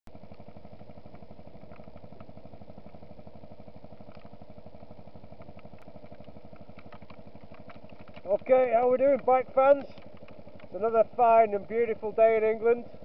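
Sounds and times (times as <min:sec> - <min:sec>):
motorcycle engine idling: 0:00.1 - 0:13.0.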